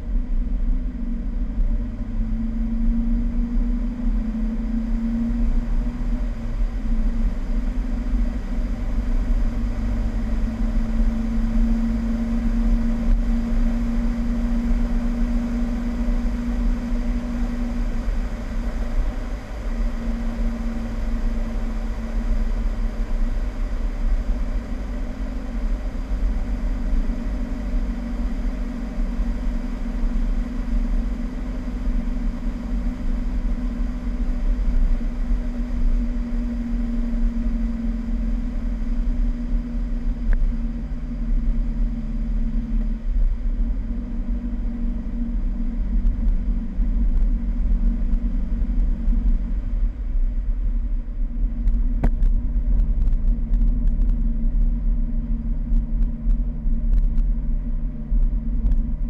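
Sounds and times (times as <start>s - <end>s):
car engine running: 0.0s - 59.0s
wind rumble on microphone: 0.0s - 59.0s.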